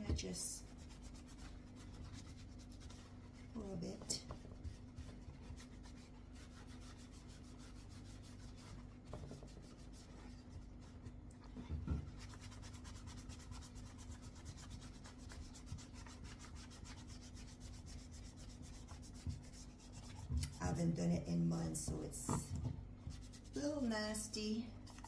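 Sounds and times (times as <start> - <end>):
paper towel scrubbing a mouse: 0.0 - 11.3, 12.0 - 21.0, 23.0 - 25.0.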